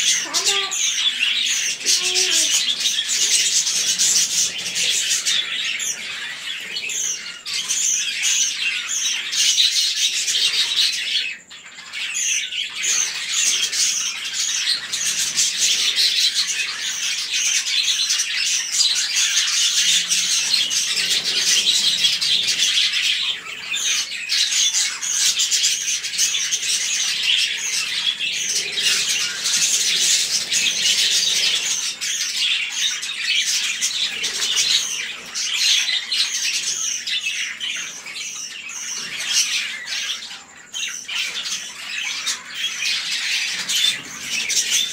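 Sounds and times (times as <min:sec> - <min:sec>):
budgerigars chattering: 0:00.0 - 0:44.9.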